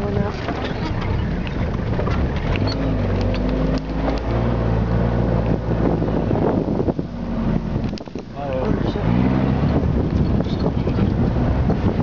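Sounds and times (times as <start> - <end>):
vehicle engine accelerating: 0.5 - 12.0.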